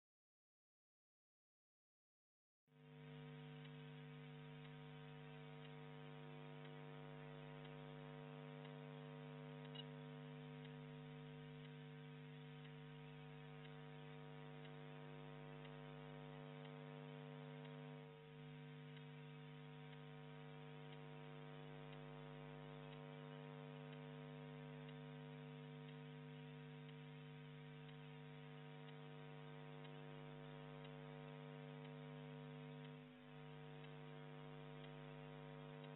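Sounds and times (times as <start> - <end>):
faint electrical hum: 2.8 - 35.9.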